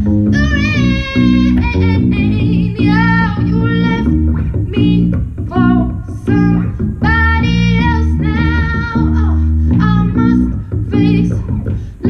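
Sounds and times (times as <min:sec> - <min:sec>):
electric guitar low chords: 0:00.0 - 0:12.0
woman singing pop ballad: 0:00.3 - 0:11.9.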